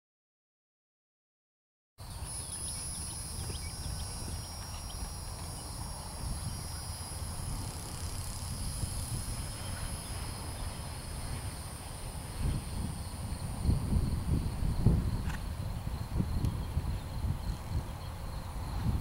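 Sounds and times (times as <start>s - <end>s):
insects droning: 2.0s - 19.0s
wind rumble on microphone: 2.0s - 19.0s.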